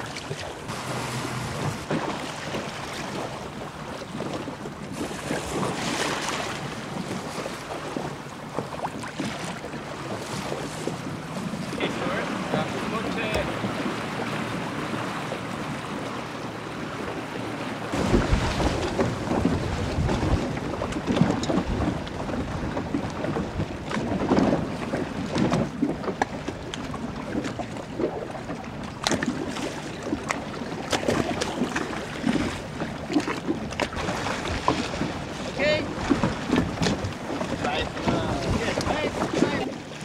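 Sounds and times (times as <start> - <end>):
choppy water splashing: 0.0 - 40.0
wind buffeting microphone: 0.6 - 40.0.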